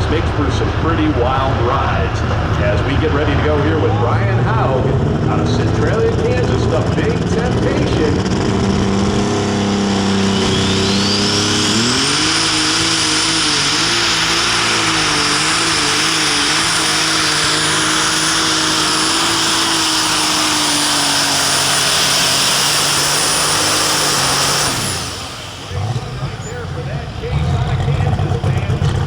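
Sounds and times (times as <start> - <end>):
diesel tractor engine revving: 0.0 - 29.0
turbo whine: 0.0 - 29.0.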